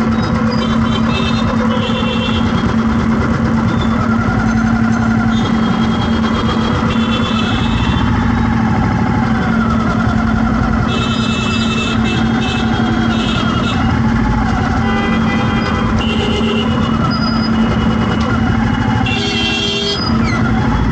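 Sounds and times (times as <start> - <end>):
street traffic: 0.0 - 20.9
vehicle engine running: 0.0 - 20.9.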